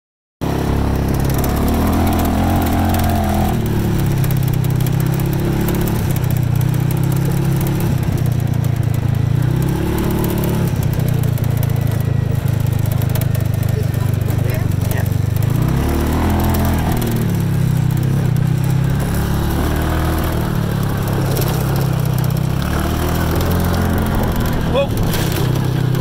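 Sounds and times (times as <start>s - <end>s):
utility vehicle engine running: 0.4s - 26.0s.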